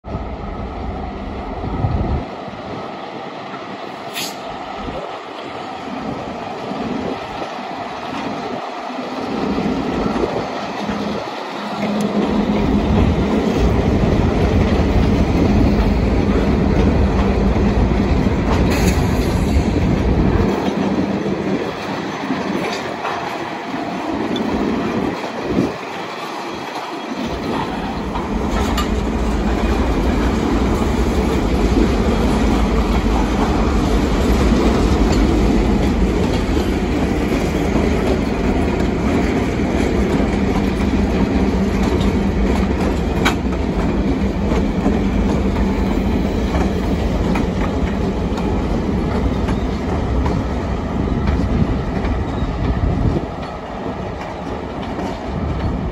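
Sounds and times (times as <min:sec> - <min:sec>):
diesel locomotive engines droning: 0:00.1 - 0:55.9
train cars clicking over rail joints: 0:08.0 - 0:55.9.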